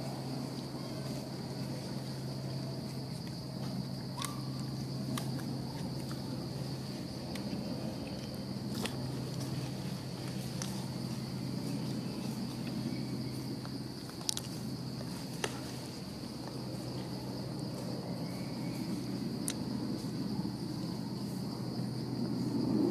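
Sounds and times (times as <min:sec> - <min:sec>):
high-pitched insect chorus: 0:00.0 - 0:22.9.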